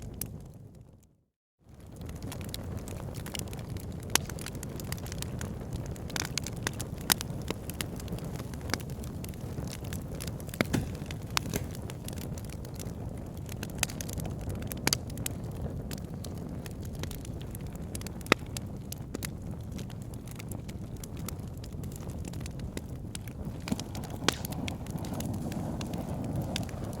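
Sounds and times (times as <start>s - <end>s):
low roar of flame: 1.7s - 27.0s
wood crackling and popping: 1.7s - 27.0s.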